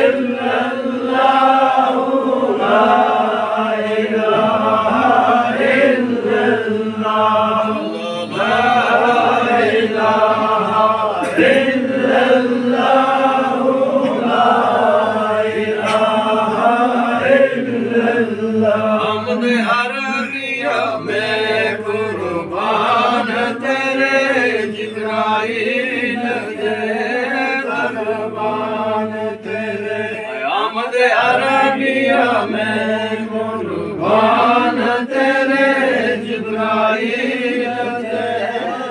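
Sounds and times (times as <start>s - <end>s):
men chanting in unison: 0.0s - 38.9s.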